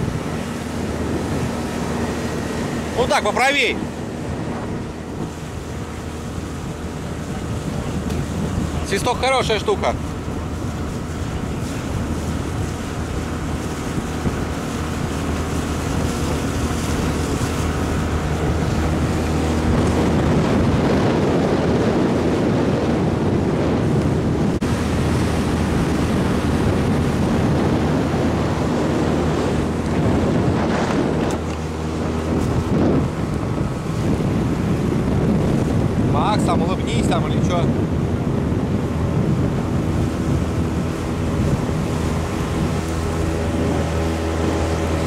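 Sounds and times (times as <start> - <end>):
outboard motor running: 0.0 - 45.0
water rushing past hull: 0.0 - 45.0
wind buffeting microphone: 0.0 - 45.0.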